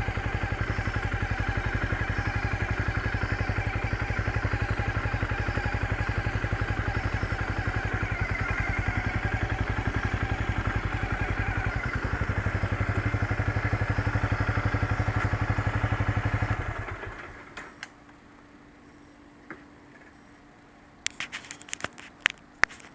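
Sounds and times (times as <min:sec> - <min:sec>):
motorcycle engine idling: 0:00.0 - 0:20.0
faint steady hum: 0:00.0 - 0:22.9.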